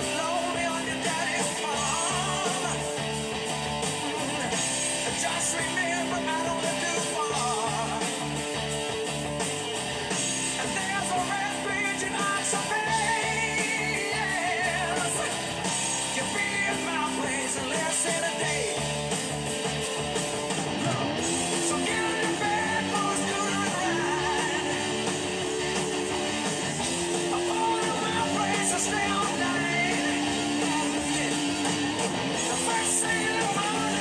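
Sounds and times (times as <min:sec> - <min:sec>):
person singing: 0:00.0 - 0:03.0, 0:04.3 - 0:08.3, 0:10.5 - 0:19.0, 0:20.8 - 0:34.0
electric guitar: 0:00.0 - 0:34.0
hard rock music: 0:00.0 - 0:34.0.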